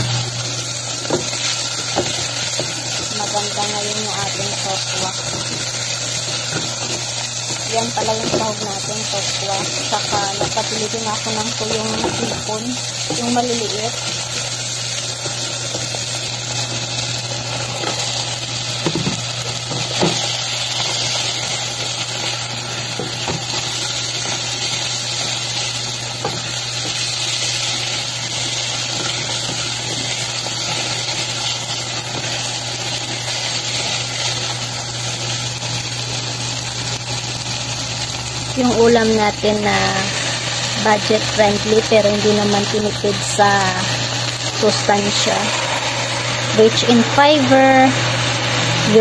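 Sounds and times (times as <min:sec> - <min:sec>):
food sizzling in oil: 0:00.0 - 0:49.0.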